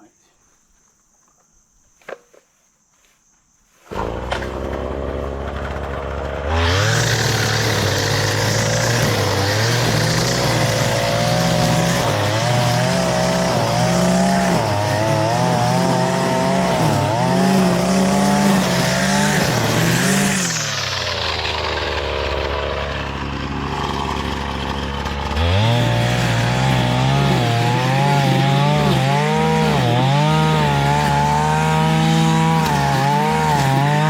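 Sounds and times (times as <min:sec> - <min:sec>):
petrol engine revving: 0:03.9 - 0:34.0.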